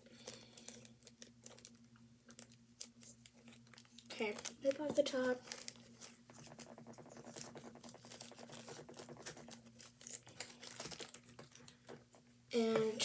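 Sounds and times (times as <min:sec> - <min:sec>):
faint steady hum: 0:00.0 - 0:13.0
plastic bag crinkling and tearing: 0:00.1 - 0:12.0.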